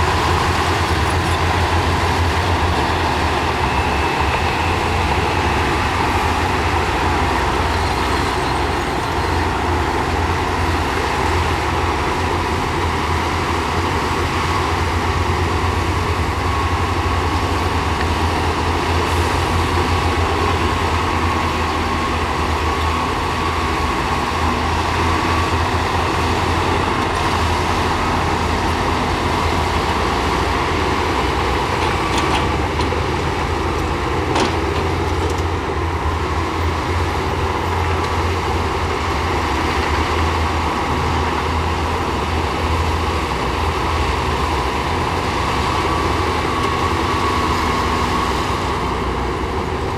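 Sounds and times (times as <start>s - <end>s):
diesel engine rumble: 0.0s - 49.9s.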